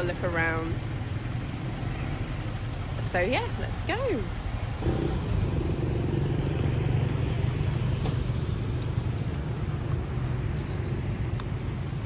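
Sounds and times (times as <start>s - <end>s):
street traffic: 0.0s - 12.0s
vehicle engine running: 0.0s - 12.0s.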